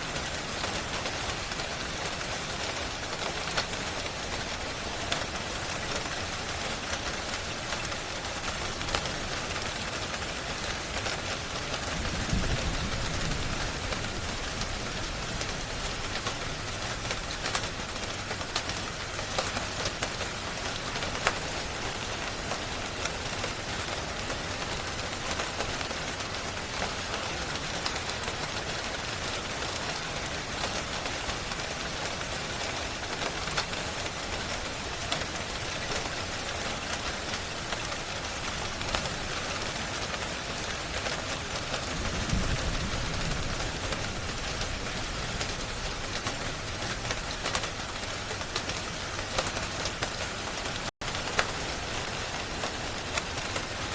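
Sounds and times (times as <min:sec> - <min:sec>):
steady rain: 0:00.0 - 0:53.9
wood fire crackling: 0:00.4 - 0:23.0, 0:33.1 - 0:53.9.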